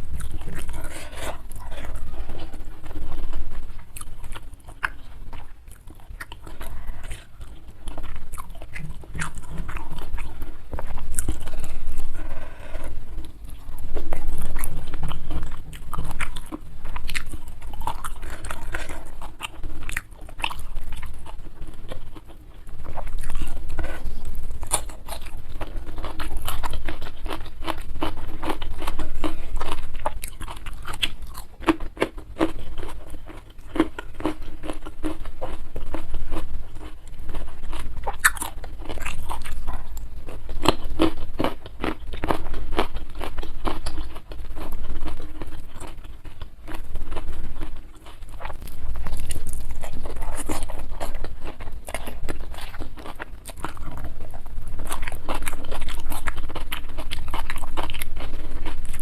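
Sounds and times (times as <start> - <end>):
chewing and crunching food: 0.0 - 59.0.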